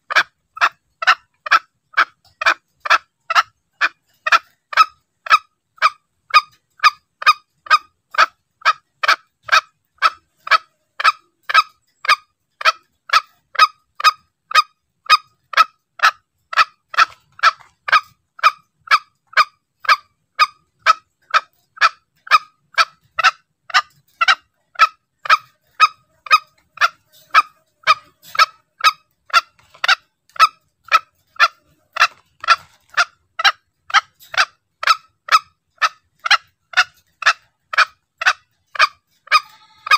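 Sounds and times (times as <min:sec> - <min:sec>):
junglefowl calls: 0:00.0 - 0:39.9.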